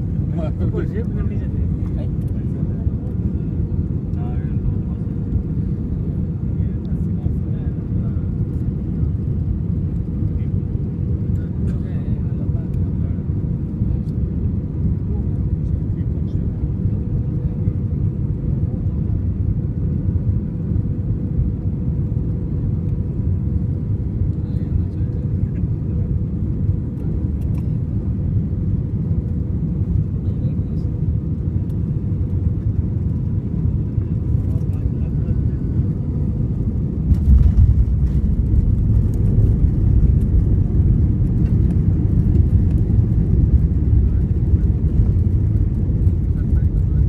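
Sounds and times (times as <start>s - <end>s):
airliner cabin engine rumble: 0.0s - 47.0s.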